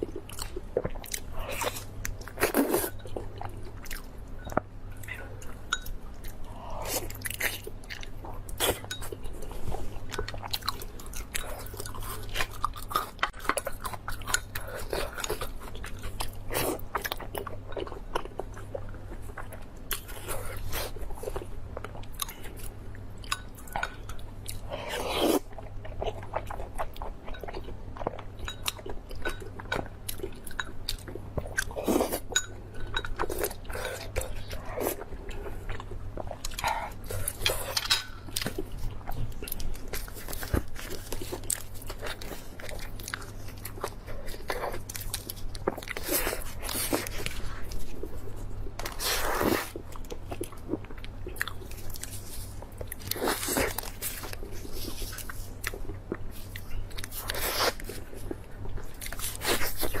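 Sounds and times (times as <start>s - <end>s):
faint low hum: 0.0s - 60.0s
person chewing crunchy food: 0.0s - 60.0s.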